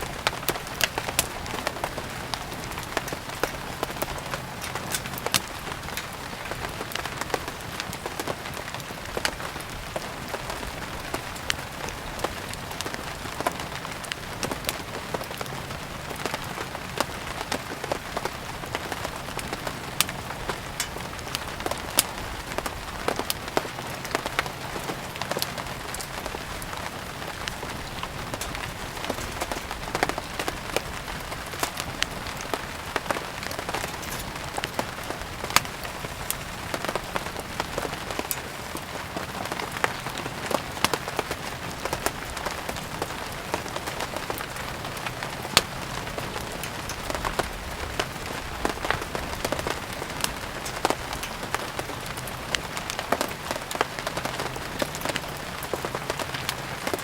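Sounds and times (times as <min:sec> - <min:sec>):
steady rain: 0:00.0 - 0:57.0
wood fire popping and crackling: 0:00.0 - 0:57.0.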